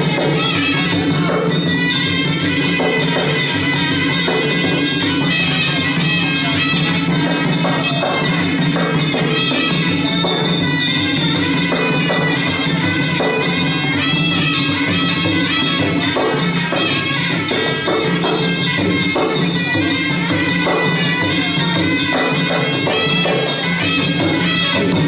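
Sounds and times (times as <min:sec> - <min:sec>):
reed pipe melody: 0:00.0 - 0:25.0
small hand cymbals: 0:00.0 - 0:25.0.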